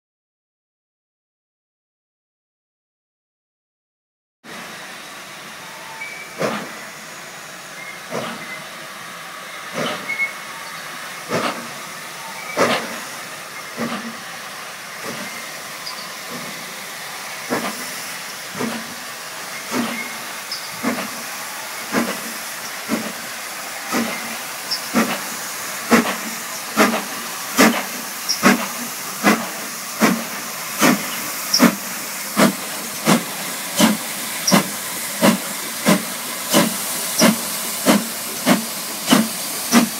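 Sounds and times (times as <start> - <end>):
hiss of steam: 4.5 - 39.9
steam locomotive exhaust chuffs: 4.5 - 39.9.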